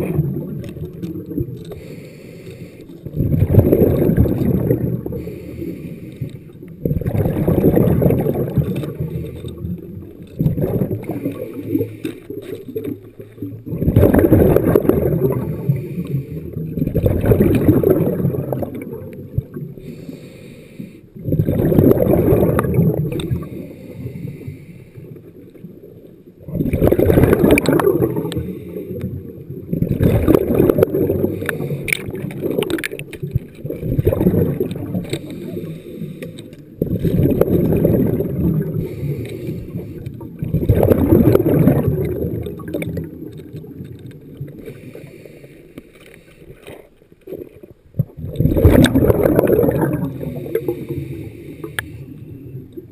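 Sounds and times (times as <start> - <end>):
underwater exhaled bubbles rumbling: 0.0 - 20.0, 21.1 - 45.2, 46.7 - 52.9.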